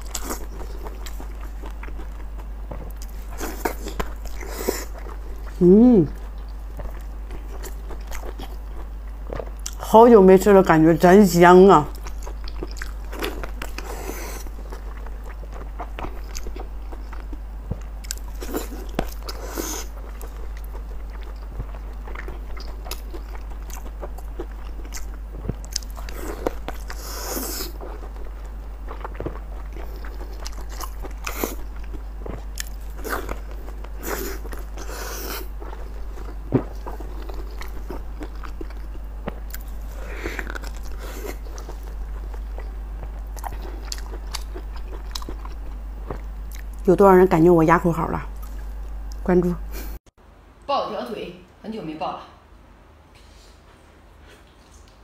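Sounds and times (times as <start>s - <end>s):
woman chewing with mouth clicks: 0.0s - 9.9s, 11.9s - 46.9s.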